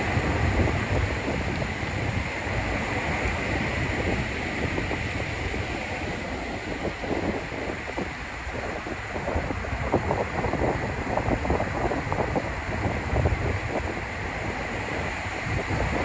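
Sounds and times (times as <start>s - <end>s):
rain rushing: 0.0s - 16.0s
wind buffeting microphone: 0.0s - 16.0s.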